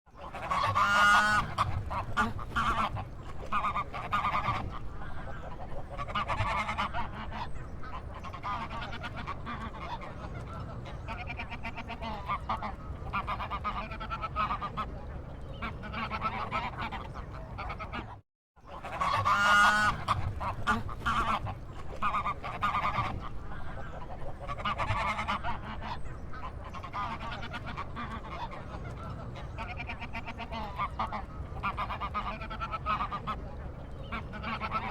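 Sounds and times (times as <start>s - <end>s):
waterfowl honking calls: 0.2s - 34.9s.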